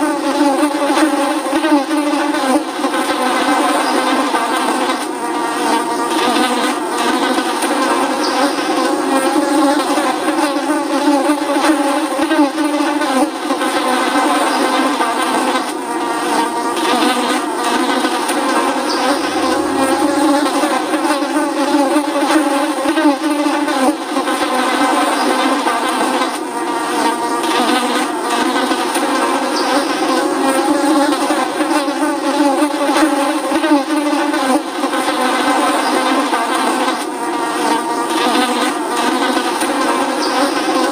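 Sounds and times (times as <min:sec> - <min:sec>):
flies buzzing: 0:00.0 - 0:40.9.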